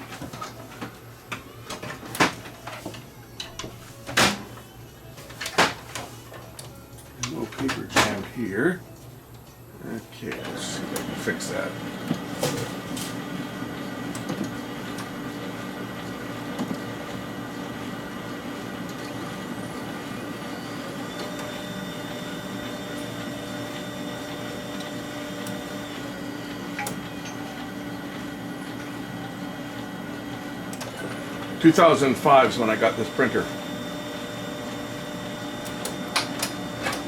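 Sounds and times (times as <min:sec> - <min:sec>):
printer motors and fans humming: 0:00.0 - 0:37.0.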